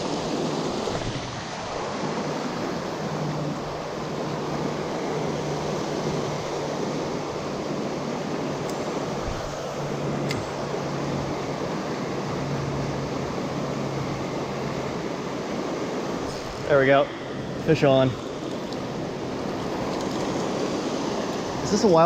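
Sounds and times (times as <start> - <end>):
river rushing through rapids: 0.0 - 22.0.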